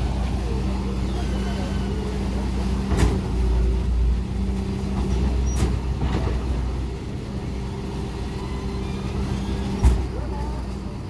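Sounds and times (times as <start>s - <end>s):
steady engine hum: 0.0s - 11.0s.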